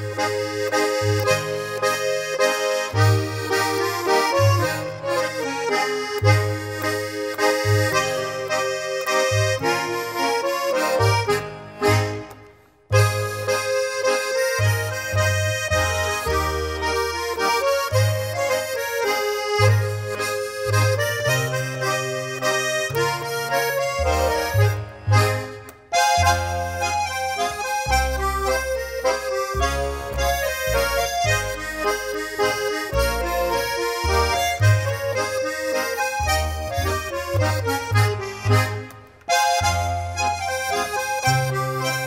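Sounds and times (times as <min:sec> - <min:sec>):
accordion folk dance tune: 0:00.0 - 0:42.0.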